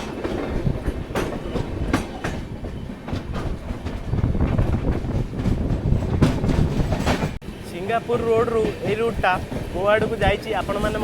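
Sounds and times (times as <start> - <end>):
train wheels rumbling: 0.0 - 11.0
wheels clicking over rail joints: 0.0 - 11.0.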